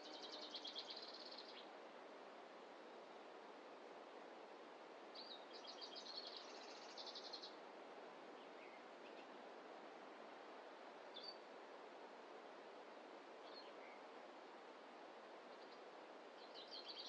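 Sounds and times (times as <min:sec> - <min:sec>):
faint steady rushing background: 0:00.0 - 0:17.0.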